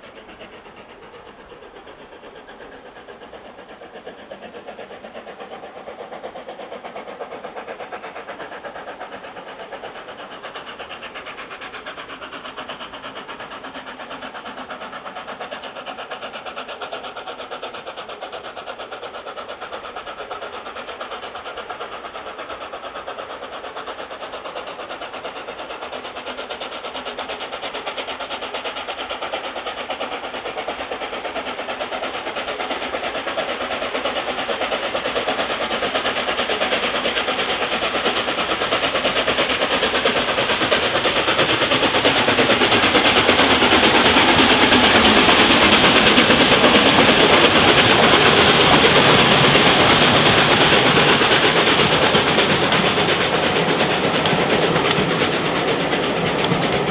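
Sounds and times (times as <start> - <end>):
steam locomotive exhaust beats: 0.0 - 56.9.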